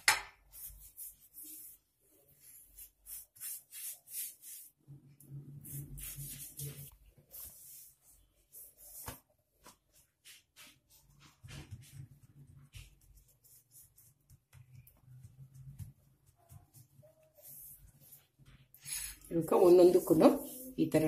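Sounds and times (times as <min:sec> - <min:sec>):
fingers rubbing paste on dough: 0:00.4 - 0:04.8, 0:05.6 - 0:18.7.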